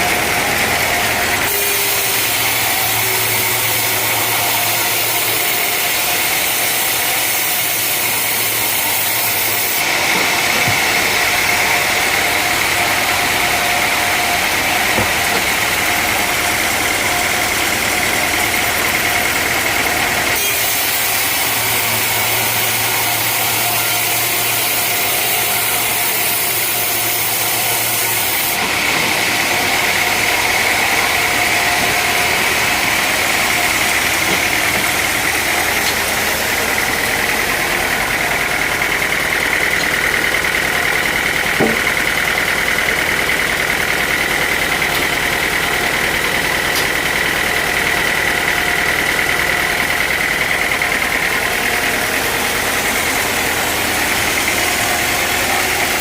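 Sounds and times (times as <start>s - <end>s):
sawmill machinery whining: 0.0s - 56.0s.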